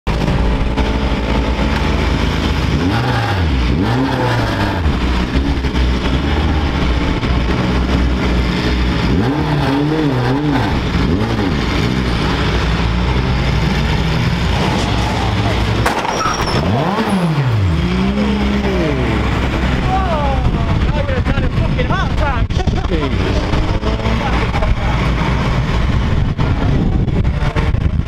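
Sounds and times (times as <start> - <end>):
steady low drone: 0.1 - 15.9, 16.5 - 28.0
race car engine running: 0.1 - 28.0.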